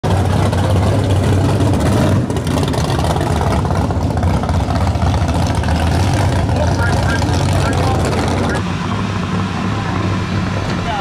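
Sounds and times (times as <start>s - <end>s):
drag racing engines idling: 0.0s - 11.0s.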